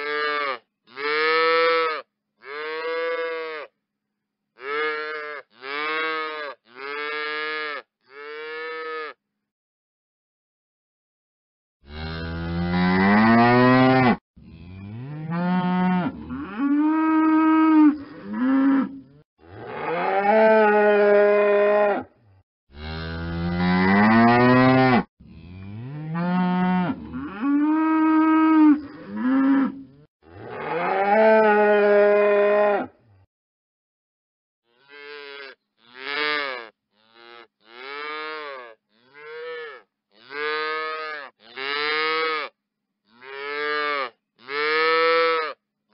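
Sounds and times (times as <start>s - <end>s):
cattle mooing: 0.0s - 3.7s, 4.6s - 9.2s, 11.9s - 22.1s, 22.8s - 33.0s, 34.7s - 42.5s, 43.2s - 45.6s.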